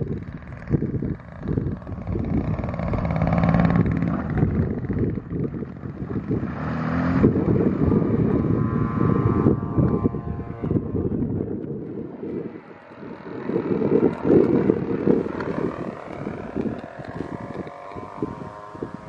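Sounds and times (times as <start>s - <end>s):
model airplane engine droning: 0.0s - 19.0s
wind buffeting microphone: 0.0s - 19.0s.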